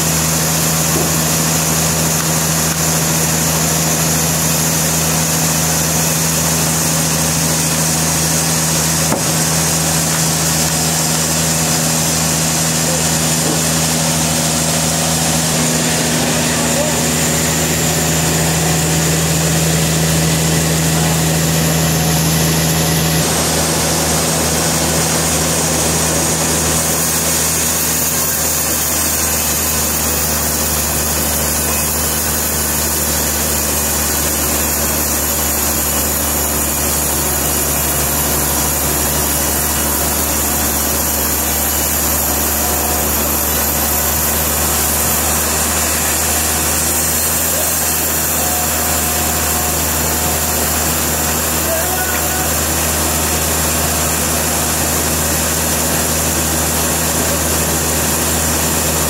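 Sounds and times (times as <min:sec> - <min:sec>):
sawmill saw humming: 0:00.0 - 0:59.0.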